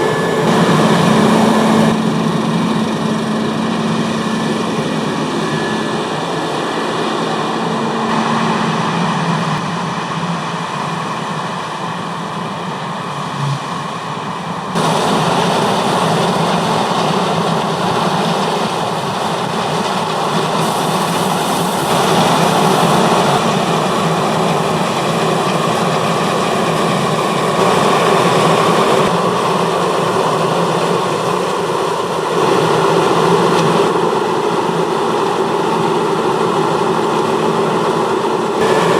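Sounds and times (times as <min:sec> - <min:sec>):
harvest machinery engine din: 0:00.0 - 0:38.9.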